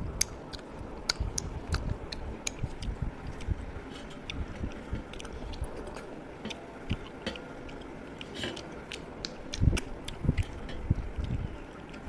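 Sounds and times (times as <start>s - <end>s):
person chewing food: 0.1s - 12.0s
wet mouth clicks: 0.2s - 11.5s.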